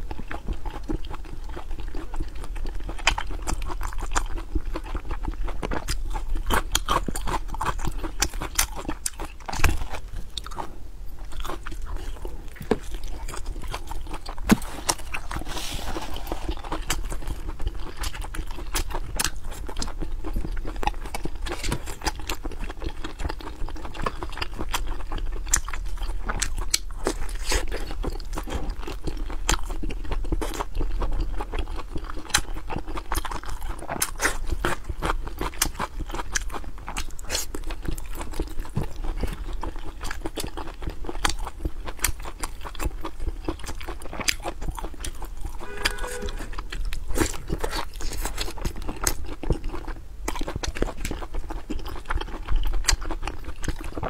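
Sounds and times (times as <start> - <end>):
chewing and biting sausage: 0.0 - 54.0.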